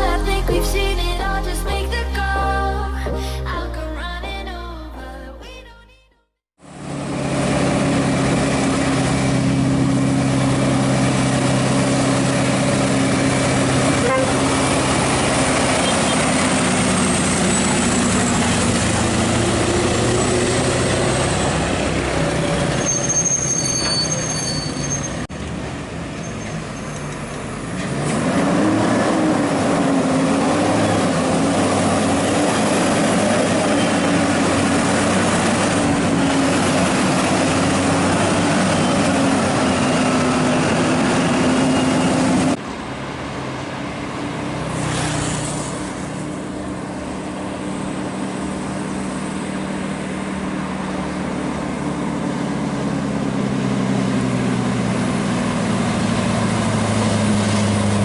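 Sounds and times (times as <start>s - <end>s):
diesel engine running under load: 6.6s - 58.0s.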